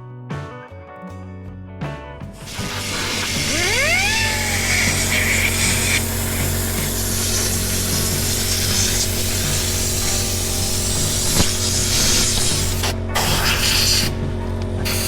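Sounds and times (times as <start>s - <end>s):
compressed air hissing: 2.4s - 15.0s.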